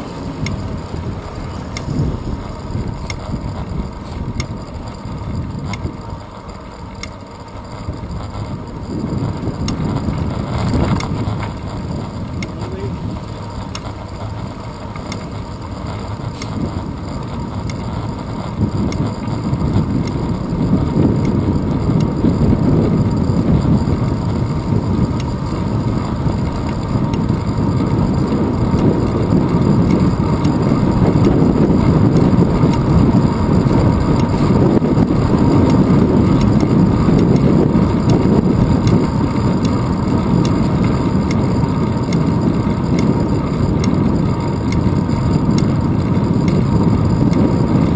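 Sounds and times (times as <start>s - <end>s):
road rumble: 0.0s - 47.9s
wind noise: 0.0s - 47.9s.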